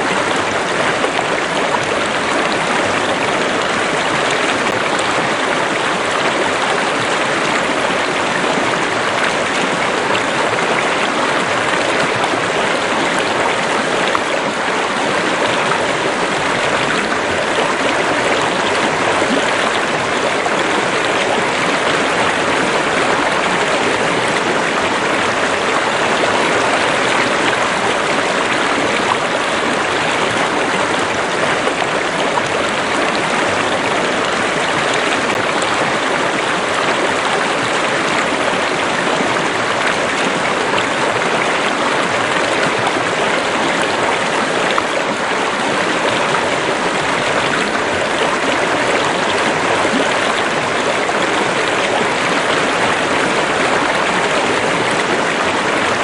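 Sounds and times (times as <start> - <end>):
water running over rocks: 0.0 - 56.0.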